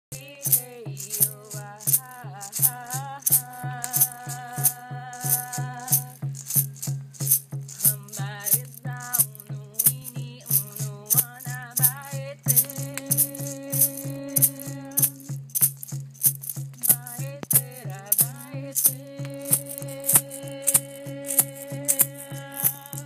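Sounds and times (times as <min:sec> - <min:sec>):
shaker rattle: 0:00.1 - 0:23.0
person chanting: 0:00.2 - 0:06.2, 0:07.8 - 0:15.3, 0:16.8 - 0:23.0
low even beat: 0:00.2 - 0:23.0.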